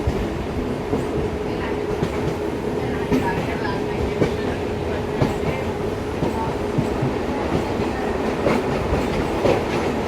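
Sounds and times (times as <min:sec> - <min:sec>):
train rumbling on rails: 0:00.0 - 0:10.0.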